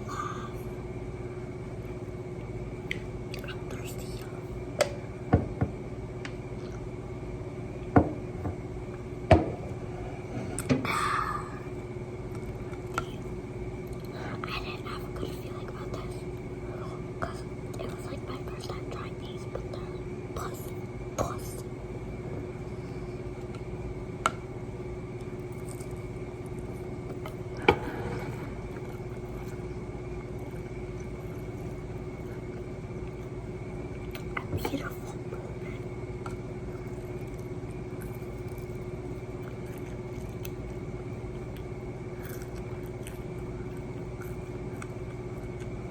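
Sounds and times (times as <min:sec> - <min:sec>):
low steady hum: 0:00.0 - 0:45.9
crunchy eating sounds: 0:09.0 - 0:45.9.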